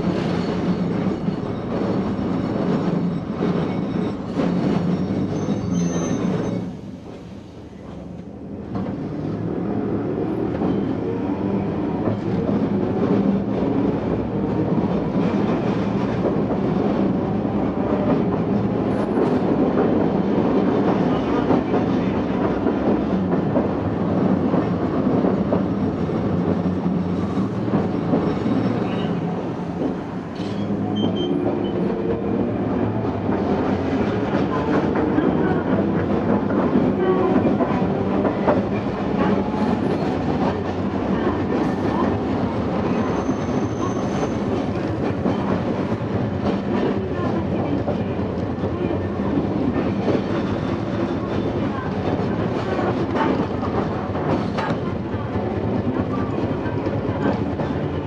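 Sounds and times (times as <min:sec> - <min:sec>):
streetcar wheel and motor noise: 0:00.0 - 0:58.0.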